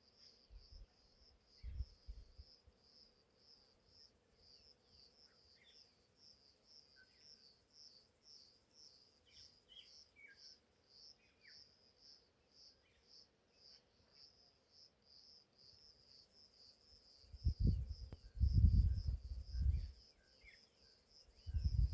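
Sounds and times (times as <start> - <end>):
faint insect chirping: 0.0 - 21.9.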